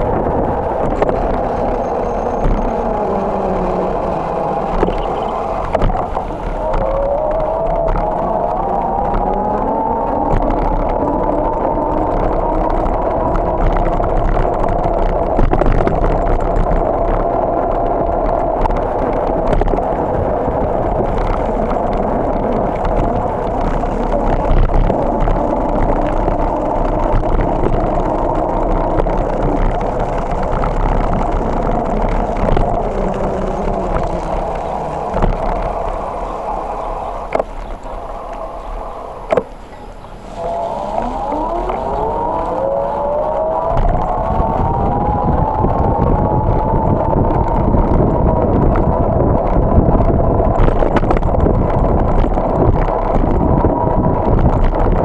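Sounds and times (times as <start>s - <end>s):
bicycle whine: 0.0s - 55.0s
low road rumble: 0.0s - 55.0s.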